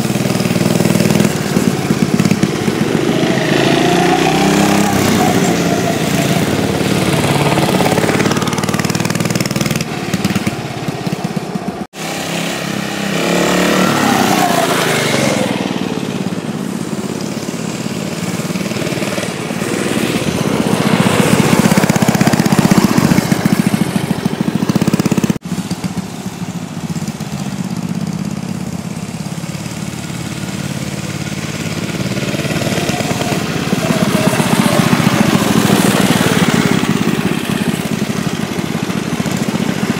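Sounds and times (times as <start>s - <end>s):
small engine revving: 0.0s - 26.0s, 26.9s - 39.9s.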